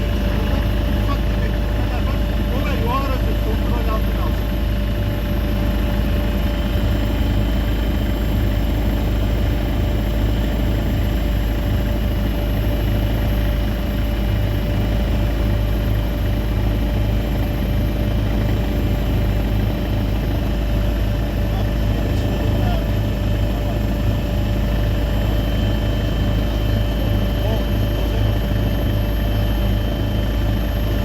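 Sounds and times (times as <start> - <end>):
low mechanical drone: 0.0 - 31.0
thin steady whine: 0.0 - 31.0.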